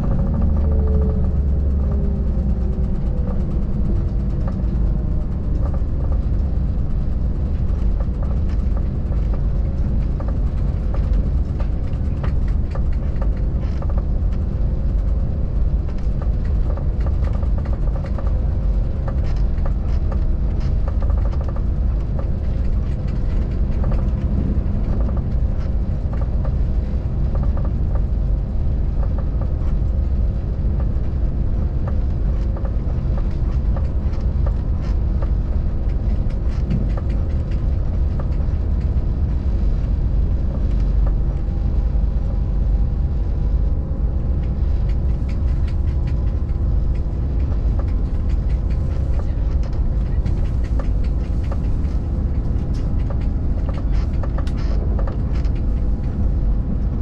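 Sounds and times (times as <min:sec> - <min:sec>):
train wheels rumbling on rails: 0:00.0 - 0:57.0
light clicks and rattles: 0:00.1 - 0:43.4, 0:44.0 - 0:57.0.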